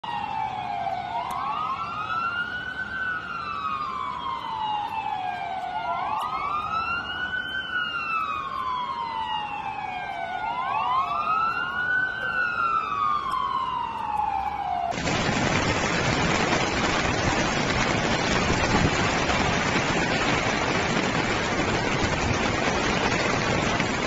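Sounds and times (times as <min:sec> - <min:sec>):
second siren wailing: 0:00.0 - 0:24.0
siren slow wail: 0:00.0 - 0:24.0.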